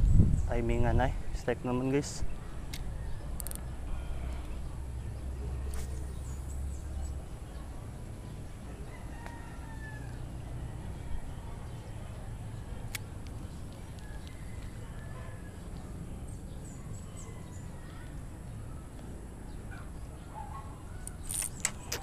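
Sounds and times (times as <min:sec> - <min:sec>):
birds calling faintly: 0:00.3 - 0:22.0.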